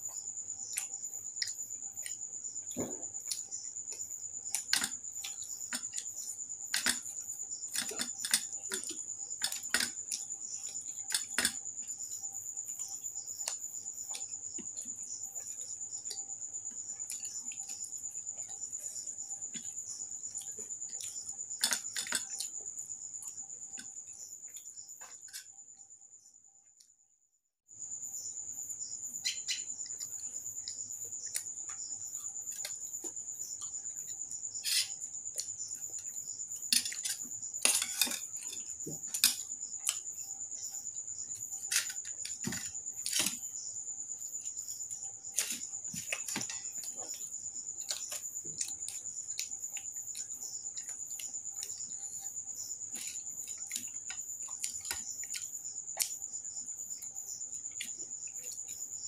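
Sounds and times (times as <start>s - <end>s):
eating by hand clicks and smacks: 0.7s - 11.7s, 12.7s - 25.4s, 29.2s - 40.3s, 44.4s - 59.0s.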